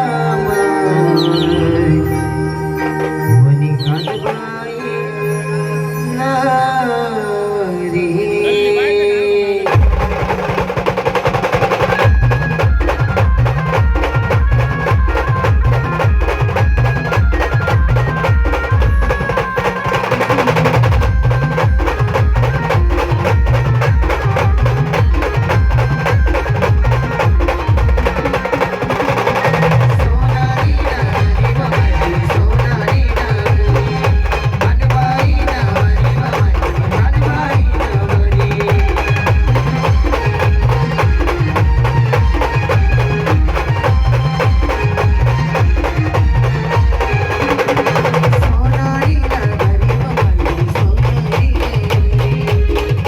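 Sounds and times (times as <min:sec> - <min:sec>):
loud band music with heavy bass: 0:00.0 - 0:04.8, 0:09.7 - 0:53.0
clattering percussion: 0:09.7 - 0:53.0.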